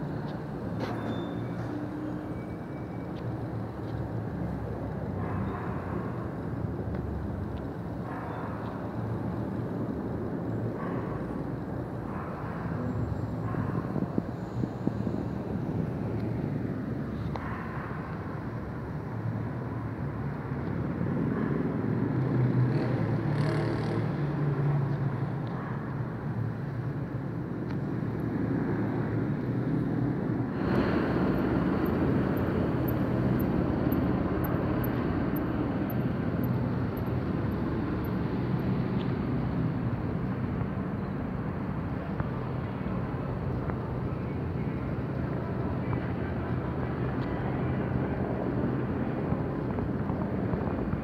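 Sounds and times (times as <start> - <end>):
city background noise: 0.0 - 51.0
distant aircraft drone: 0.0 - 51.0.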